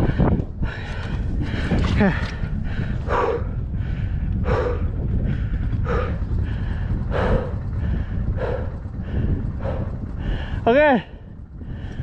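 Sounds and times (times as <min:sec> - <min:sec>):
person breathing hard: 0:00.0 - 0:12.0
steady low rumble: 0:00.0 - 0:12.0.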